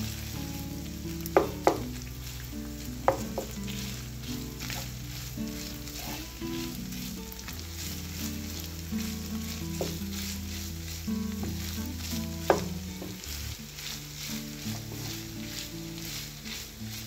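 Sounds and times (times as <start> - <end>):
meat sizzling in a frying pan: 0.0 - 17.0
wooden spatula scraping a pan: 0.0 - 17.0.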